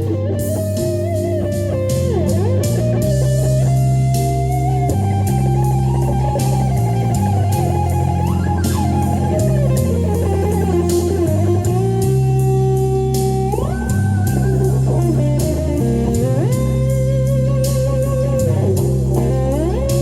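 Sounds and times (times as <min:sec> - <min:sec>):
blues-rock backing track: 0:00.0 - 0:20.0
electric guitar lead: 0:00.0 - 0:20.0.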